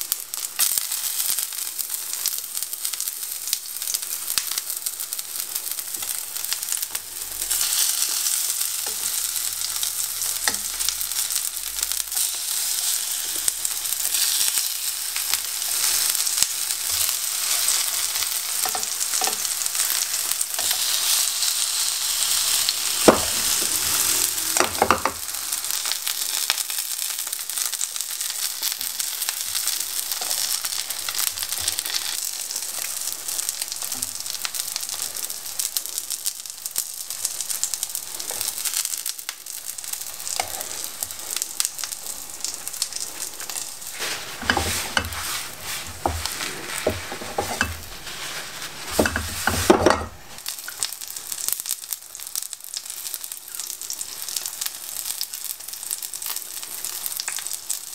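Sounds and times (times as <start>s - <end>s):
hot oil sizzling: 0.0s - 57.9s.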